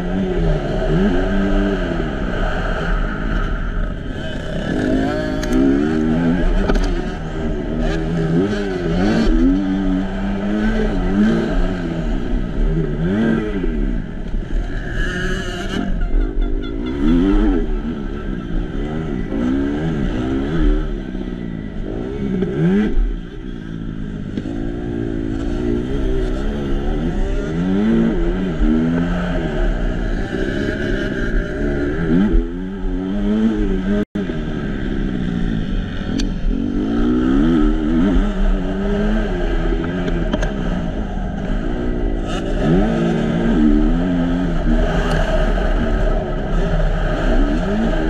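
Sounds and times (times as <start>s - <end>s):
motocross engine revving: 0.0s - 48.0s.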